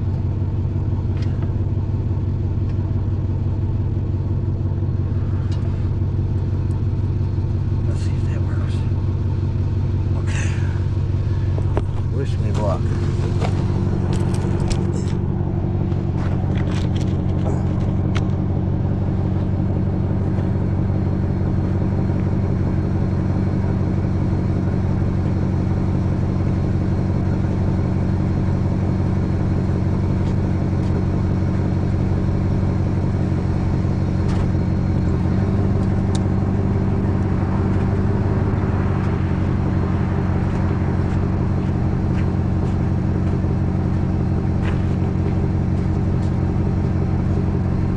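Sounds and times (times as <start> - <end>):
vehicle engine humming at low revs: 0.0 - 47.9.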